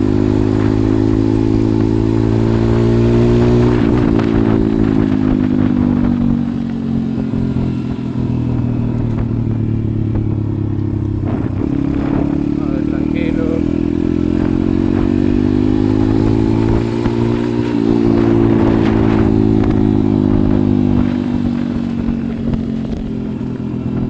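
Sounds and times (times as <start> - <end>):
motorbike engine running: 0.0 - 24.0.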